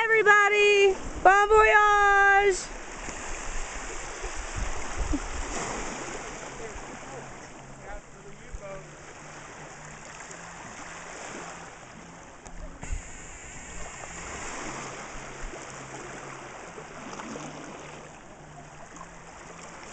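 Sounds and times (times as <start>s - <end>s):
water splashing around canoe: 1.0s - 19.9s.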